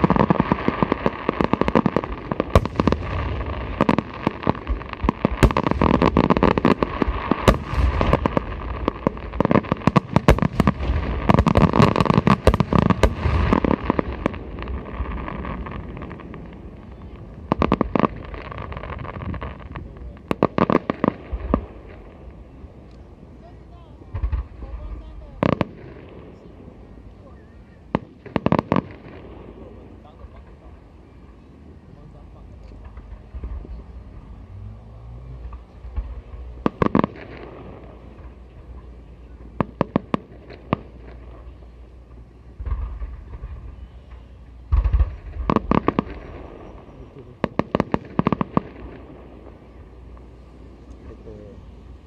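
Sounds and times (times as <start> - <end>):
fireworks bangs: 0.0 - 27.1, 27.7 - 31.4, 32.0 - 34.6, 35.4 - 52.0.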